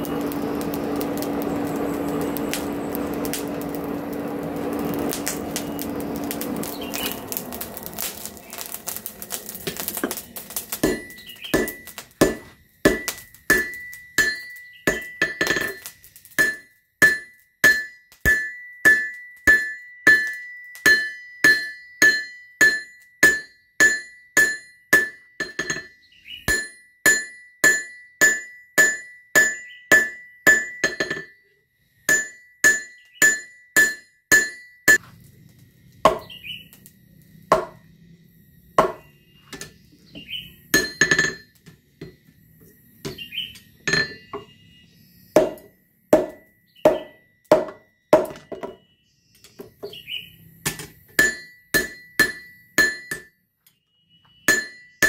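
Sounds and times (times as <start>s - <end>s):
hammer striking steel on anvil: 0.0s - 31.4s, 32.1s - 35.0s, 36.1s - 36.4s, 37.5s - 37.8s, 38.8s - 39.8s, 40.7s - 42.2s, 43.0s - 44.5s, 45.4s - 48.8s, 50.6s - 53.3s, 54.5s - 55.0s.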